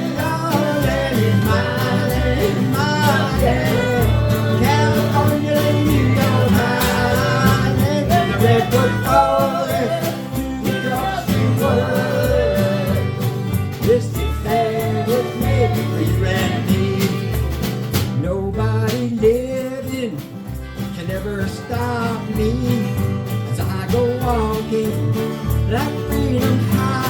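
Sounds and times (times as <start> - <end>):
live country-folk band music: 0.0 - 27.0.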